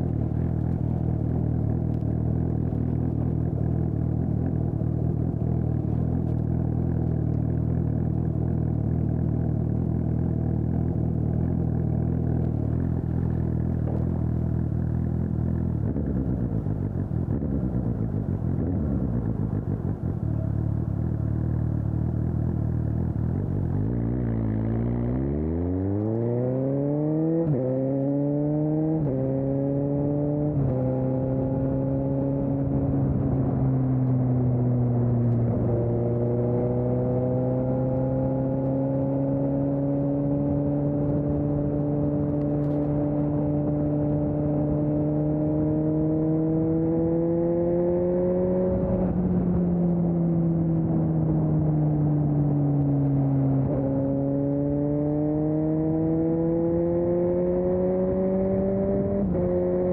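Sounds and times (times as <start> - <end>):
motorcycle engine revving: 0.0 - 59.9
quick gear upshifts: 0.0 - 59.9.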